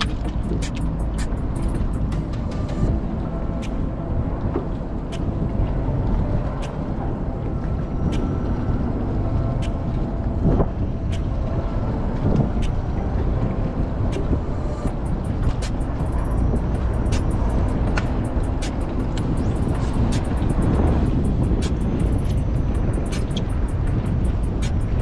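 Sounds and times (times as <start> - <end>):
boat motor running: 0.0 - 25.0
wind buffeting microphone: 0.0 - 25.0.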